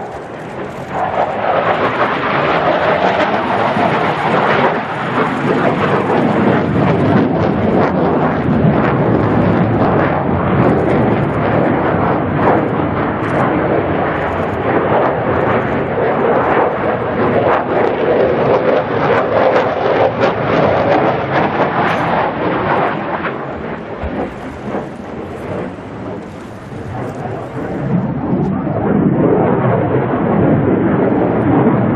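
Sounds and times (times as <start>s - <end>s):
jet engine roaring overhead: 0.0s - 31.9s.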